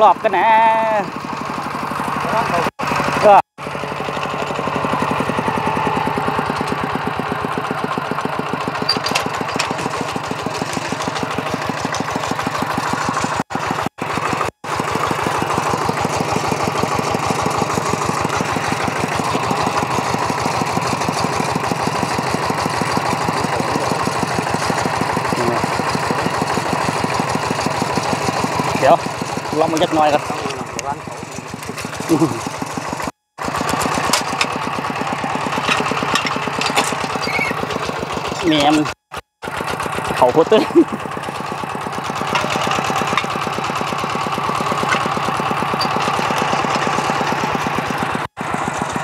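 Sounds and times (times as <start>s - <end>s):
single-cylinder engine knocking: 0.0s - 49.0s.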